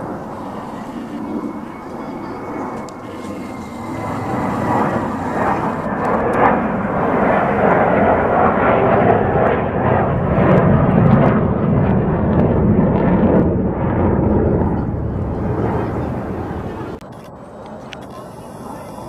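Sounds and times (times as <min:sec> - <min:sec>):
fighter jet flying over: 0:00.0 - 0:19.0.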